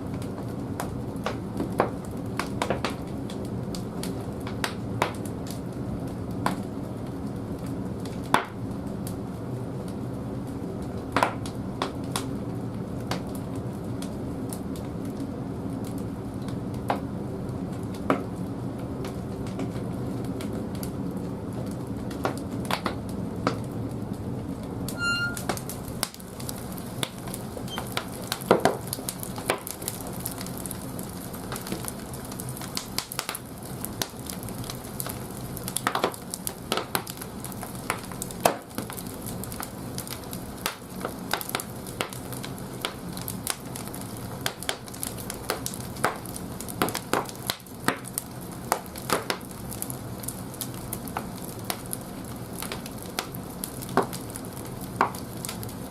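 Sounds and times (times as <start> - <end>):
firewood crackling and popping: 0.0 - 55.9.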